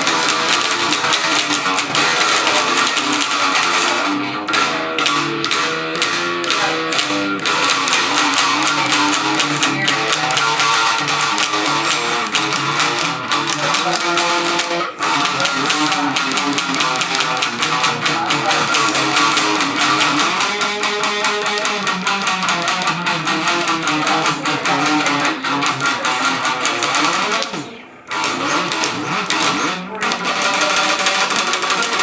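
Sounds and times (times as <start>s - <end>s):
metal music with guitar riff: 0.0s - 32.0s.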